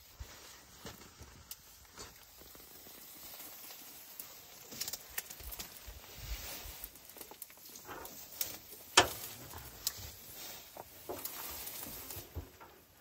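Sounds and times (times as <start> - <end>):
grass and shrubs rustling and tearing: 0.0 - 13.0.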